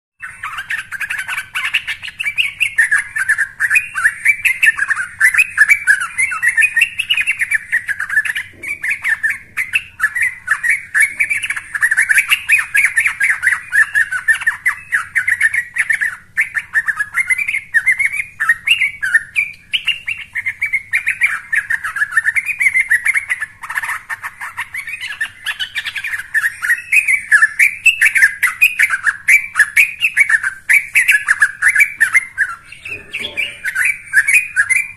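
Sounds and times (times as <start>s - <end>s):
bulbul singing: 0.2s - 34.9s.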